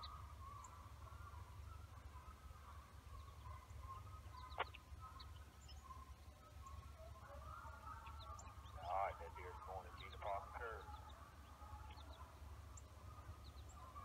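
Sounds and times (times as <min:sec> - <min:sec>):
distant wavering animal calls: 0:00.0 - 0:14.0
low steady hum: 0:00.0 - 0:14.0.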